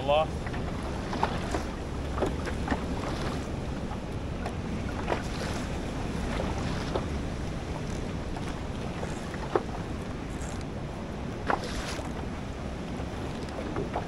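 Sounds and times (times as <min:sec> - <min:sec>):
choppy sea rumble: 0:00.0 - 0:14.0
wind buffeting microphone: 0:00.0 - 0:14.0.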